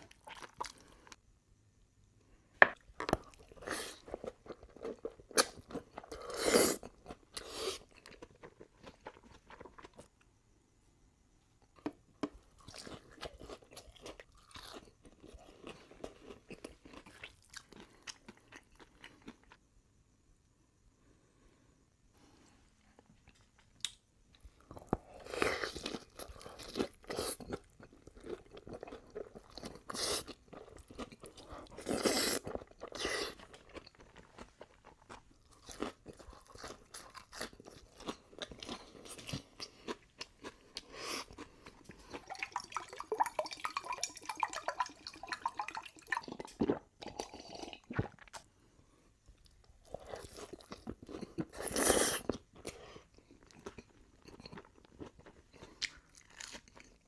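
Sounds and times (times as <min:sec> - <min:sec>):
person chewing and crunching food: 0:00.0 - 0:01.4, 0:02.7 - 0:10.6, 0:11.6 - 0:20.1, 0:22.2 - 0:57.0.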